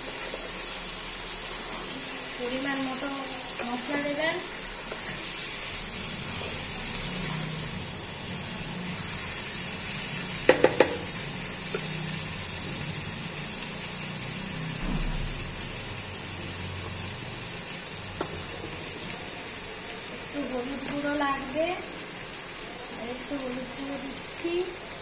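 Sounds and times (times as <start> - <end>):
chicken sizzling in a pan: 0.0 - 25.0.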